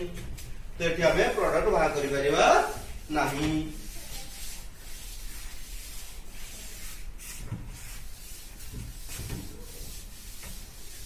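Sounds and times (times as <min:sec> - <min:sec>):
cloth rubbing blackboard: 0:01.1 - 0:11.0.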